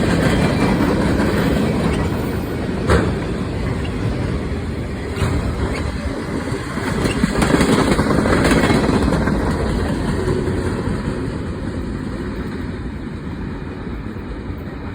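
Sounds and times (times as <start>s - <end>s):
train passing rumble: 0.0s - 14.9s.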